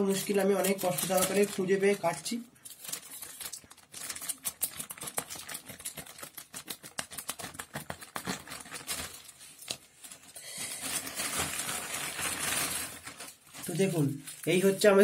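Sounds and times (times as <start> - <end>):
plastic crinkling: 0.0 - 15.0.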